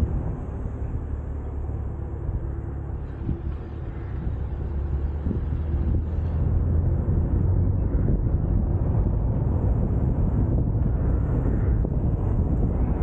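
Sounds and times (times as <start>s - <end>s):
car driving low rumble: 0.0s - 13.0s
wind buffeting microphone: 0.0s - 13.0s.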